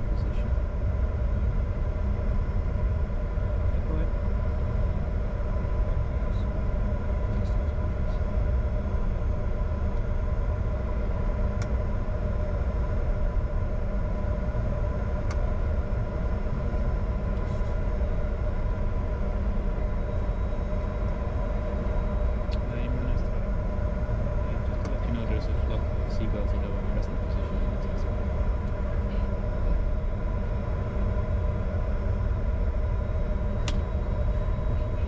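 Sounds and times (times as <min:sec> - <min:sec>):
jet engines low rumble: 0:00.0 - 0:35.0
steady whining tones: 0:00.0 - 0:35.0.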